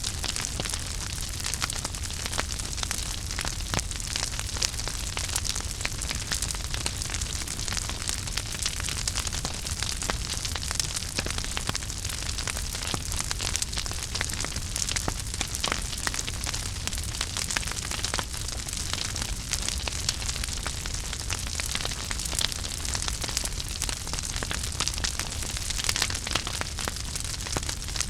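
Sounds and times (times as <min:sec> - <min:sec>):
fire crackling and popping: 0:00.0 - 0:28.0
fire low rumble: 0:00.0 - 0:28.0.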